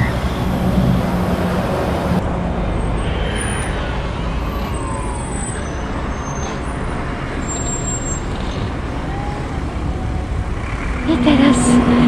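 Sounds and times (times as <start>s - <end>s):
bus turning close by: 0.0s - 12.0s
road traffic: 0.0s - 12.0s.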